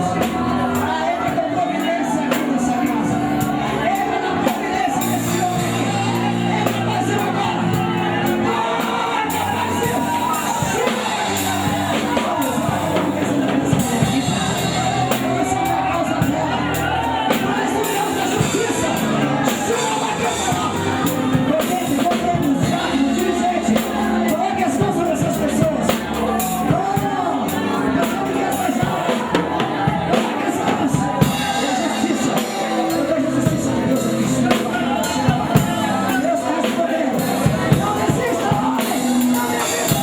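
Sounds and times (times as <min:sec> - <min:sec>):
gospel band playing: 0:00.0 - 0:40.0
voices singing: 0:00.0 - 0:40.0.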